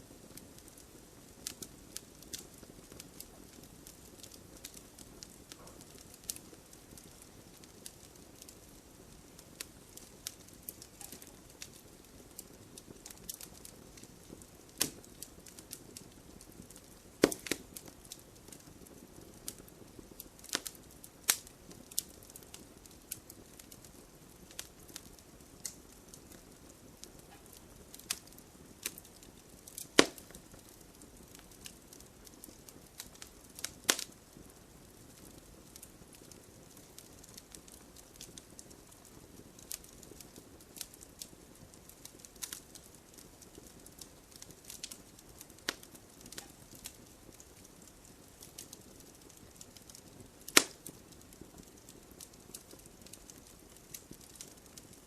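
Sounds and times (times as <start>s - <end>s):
flame hissing: 0.0s - 55.0s
wood fire popping: 0.0s - 55.0s.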